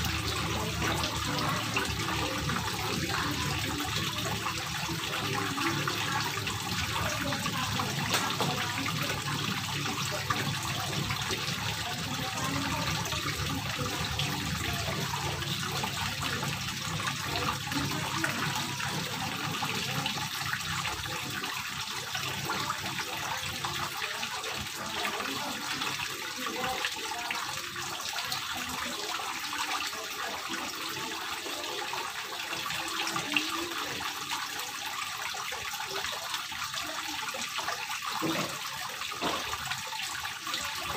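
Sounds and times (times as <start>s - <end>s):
fountain water trickling and splashing: 0.0s - 40.9s.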